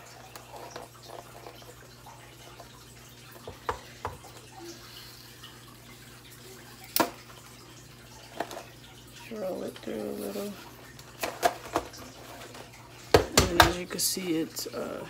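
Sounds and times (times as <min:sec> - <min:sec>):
aquarium filter trickling water: 0:00.0 - 0:15.0.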